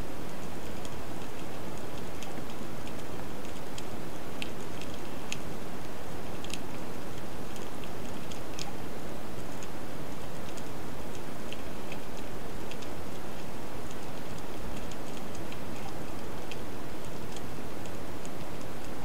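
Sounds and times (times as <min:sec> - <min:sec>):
sharp clicks and crackles: 0:00.2 - 0:19.0.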